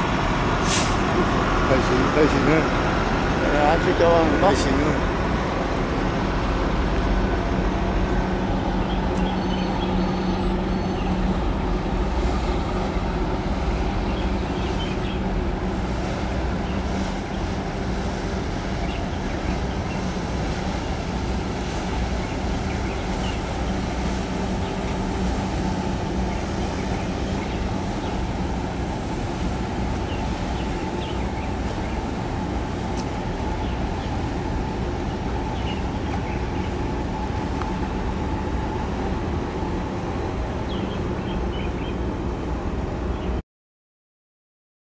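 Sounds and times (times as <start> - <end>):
boat diesel engines rumbling: 0.0 - 43.4.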